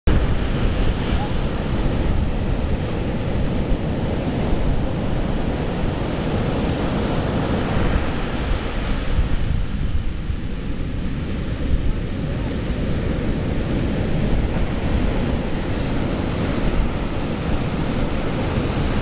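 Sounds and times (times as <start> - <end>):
ocean surf breaking: 0.1 - 19.0
wind buffeting microphone: 0.1 - 19.0.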